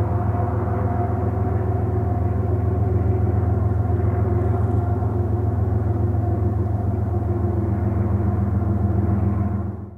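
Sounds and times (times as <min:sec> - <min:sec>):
diesel locomotive droning: 0:00.0 - 0:09.9.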